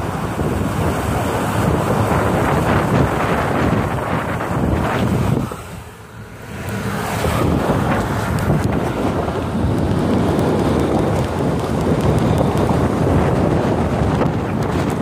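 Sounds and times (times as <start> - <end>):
road rumble: 0.0 - 15.0
wind buffeting microphone: 0.0 - 15.0.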